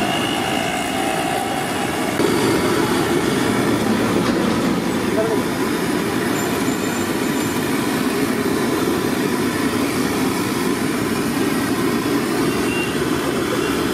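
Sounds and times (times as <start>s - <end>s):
gas stove burner roaring: 0.9s - 13.9s.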